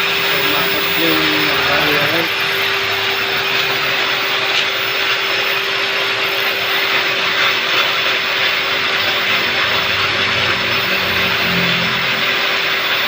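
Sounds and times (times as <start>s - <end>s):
machine whirring hum: 0.0s - 13.0s.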